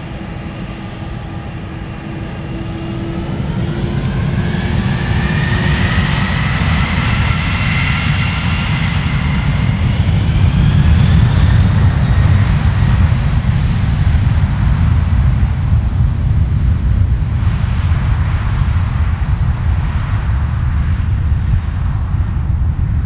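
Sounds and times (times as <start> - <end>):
jet engines during takeoff: 0.0 - 23.0.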